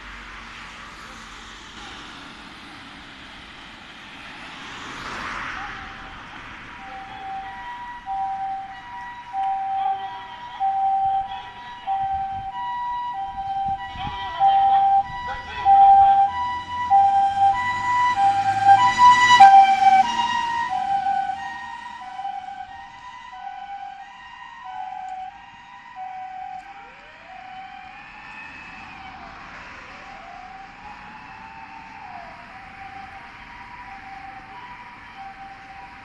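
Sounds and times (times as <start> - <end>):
vehicle engine noise: 0.0 - 36.0
distant wailing siren: 4.0 - 36.0
ambulance two-tone siren: 4.9 - 36.0.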